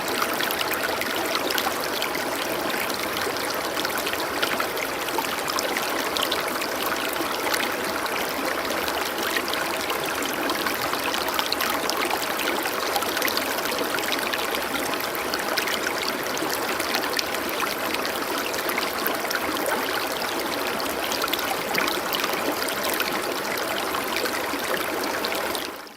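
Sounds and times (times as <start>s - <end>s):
stream trickling and splashing: 0.0s - 25.9s.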